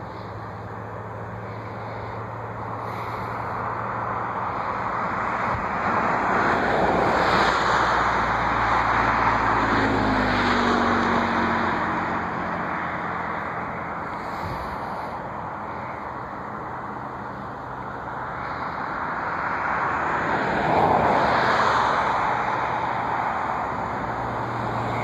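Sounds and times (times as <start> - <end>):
jet aircraft engine roar: 0.0 - 25.0.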